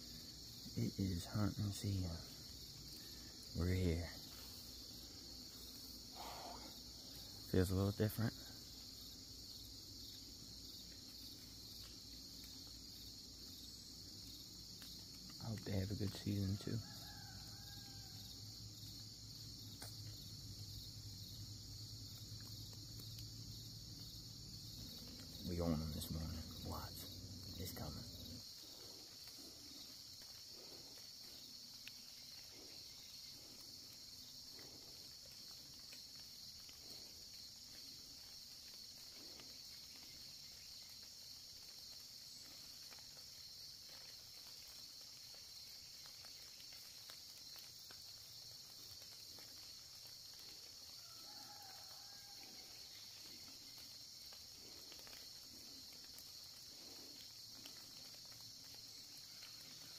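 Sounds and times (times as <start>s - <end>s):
crickets and insects chirping: 0.0s - 59.9s.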